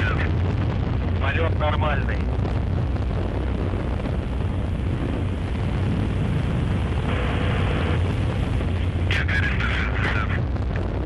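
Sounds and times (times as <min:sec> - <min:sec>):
rocket launch rumble with hiss: 0:00.0 - 0:11.0.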